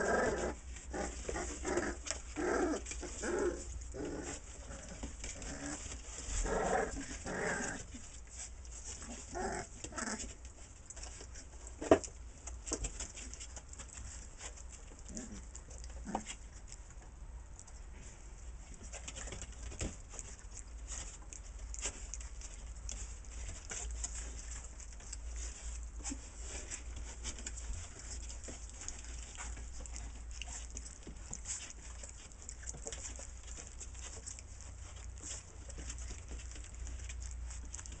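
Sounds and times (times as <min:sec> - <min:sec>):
puppy claws pattering on wood: 0:00.6 - 0:38.0.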